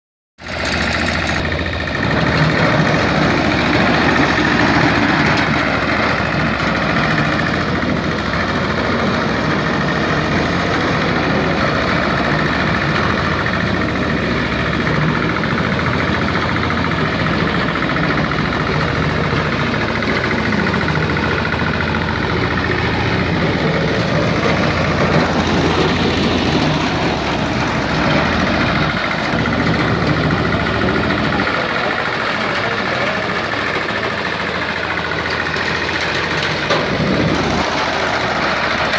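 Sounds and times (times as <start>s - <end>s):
diesel lawn mower engine running: 0.4s - 38.9s.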